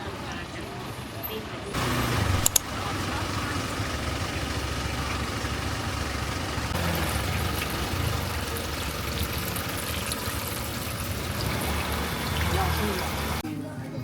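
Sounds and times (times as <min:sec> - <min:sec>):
vehicle engine idling: 0:00.0 - 0:13.4
street noise: 0:00.0 - 0:14.0.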